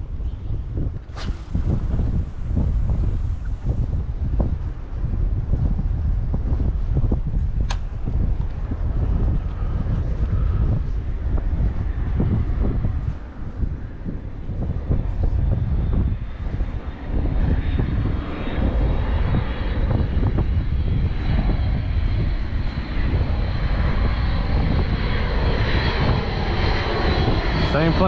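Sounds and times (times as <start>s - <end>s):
airplane engine drone: 0.0s - 28.0s.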